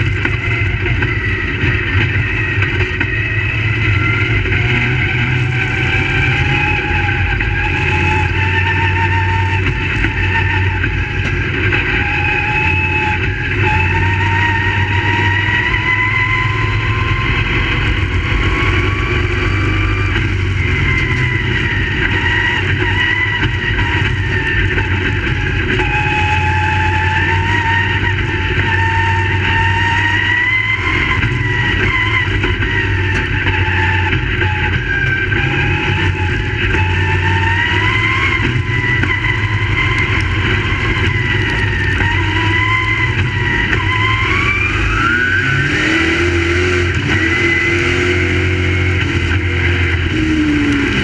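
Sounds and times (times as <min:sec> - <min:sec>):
race car engines revving high: 0:00.0 - 0:51.0.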